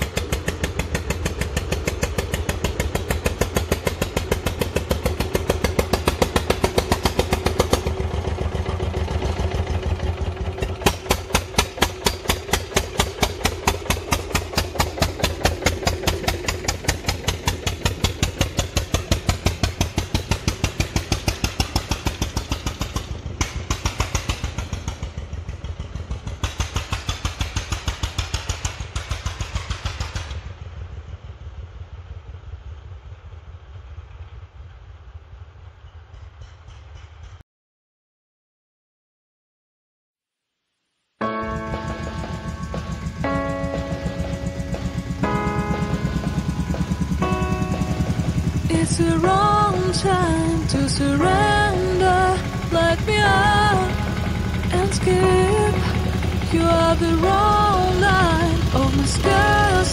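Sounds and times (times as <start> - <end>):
tractor engine running: 0.0 - 34.7, 41.2 - 59.9.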